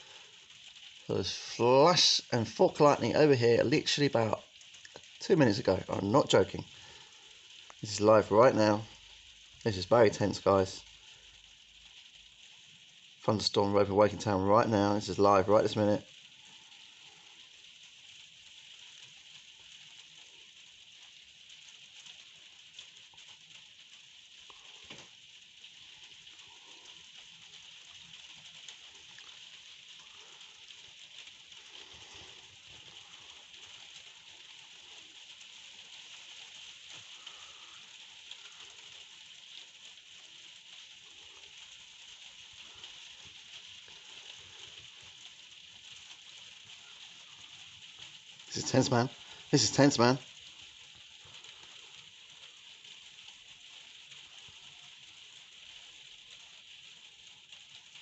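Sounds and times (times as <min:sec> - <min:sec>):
light rain hiss: 0:00.0 - 0:58.0.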